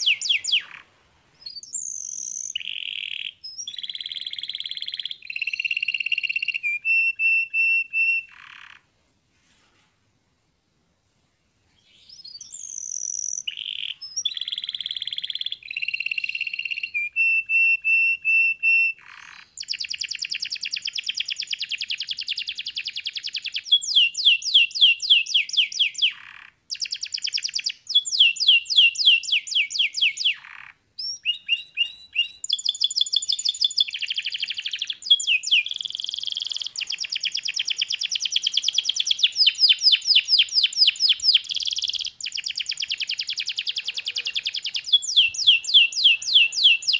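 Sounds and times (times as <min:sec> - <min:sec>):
canary singing trills: 0:00.0 - 0:08.9, 0:11.8 - 0:46.9.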